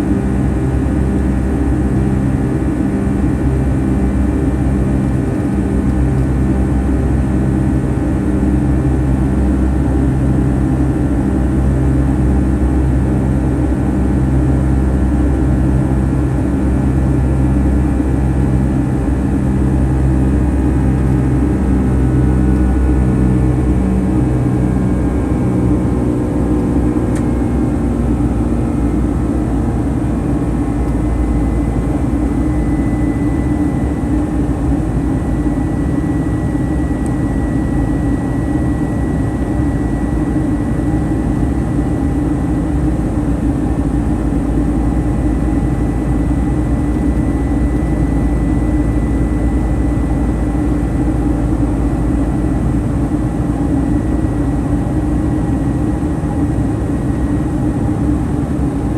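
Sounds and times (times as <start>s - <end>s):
jet engines and airflow roar: 0.0s - 58.9s.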